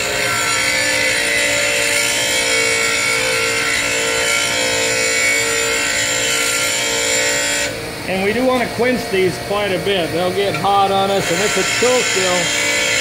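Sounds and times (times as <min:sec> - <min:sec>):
bench grinder hum: 0:00.0 - 0:13.0
metal grinding hiss: 0:00.0 - 0:13.0.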